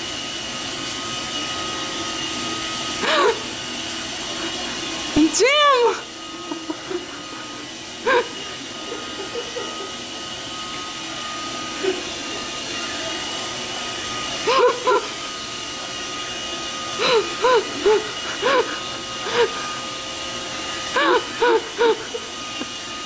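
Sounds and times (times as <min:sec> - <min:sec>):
robot vacuum humming: 0:00.0 - 0:23.0.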